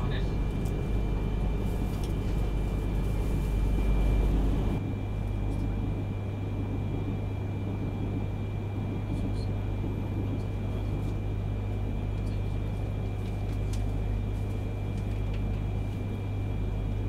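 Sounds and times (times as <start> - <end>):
train cabin low rumble: 0.0 - 17.0.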